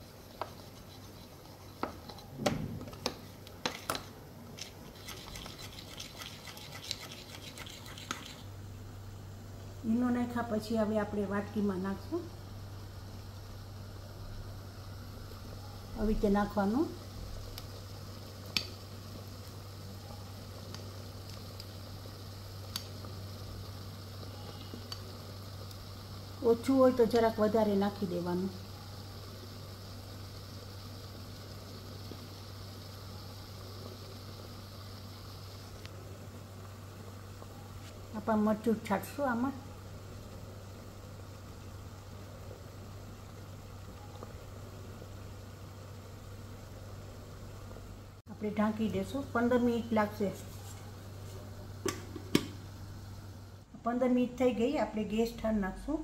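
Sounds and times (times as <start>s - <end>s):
water boiling in steamer: 0.0s - 56.0s.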